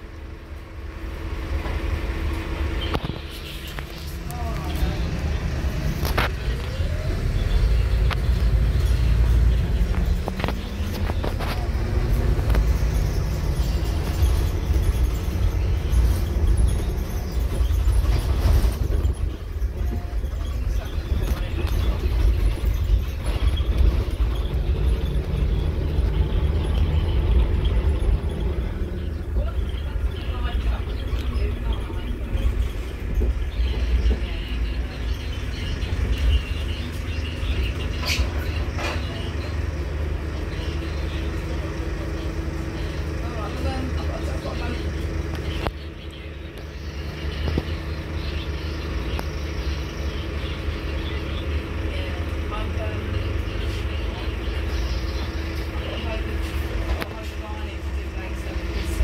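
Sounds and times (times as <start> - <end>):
bus engine and road rumble: 0.0 - 59.0
interior rattles: 0.0 - 59.0.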